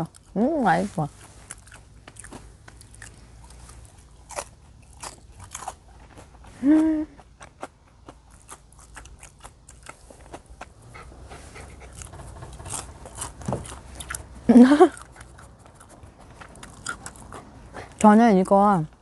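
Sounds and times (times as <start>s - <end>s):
person chewing: 0.0s - 0.4s, 1.1s - 18.0s.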